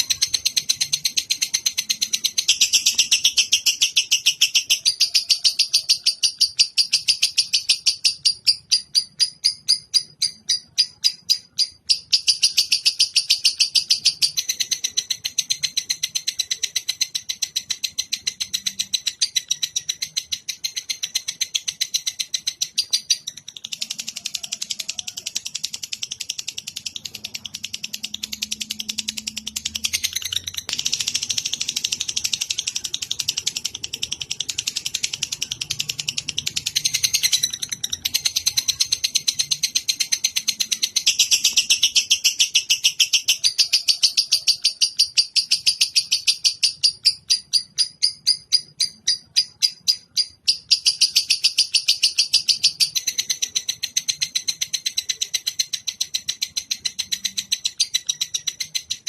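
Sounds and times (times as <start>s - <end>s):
songbird trilling: 0.0s - 59.0s.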